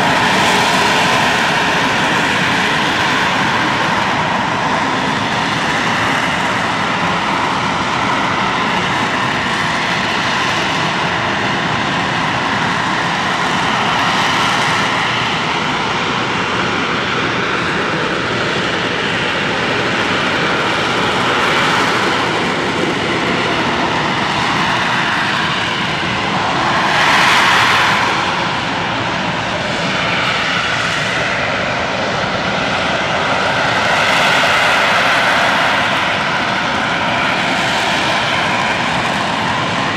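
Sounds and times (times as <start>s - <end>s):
jet engine running with whine: 0.0s - 39.9s.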